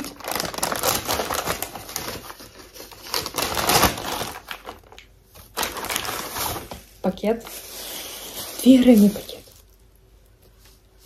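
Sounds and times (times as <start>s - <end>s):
paper bag rustling: 0.0s - 9.8s
paper crackling: 0.0s - 9.8s.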